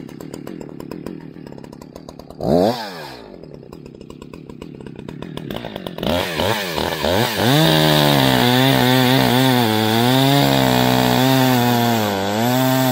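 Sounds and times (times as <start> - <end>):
chainsaw idling: 0.0 - 12.9.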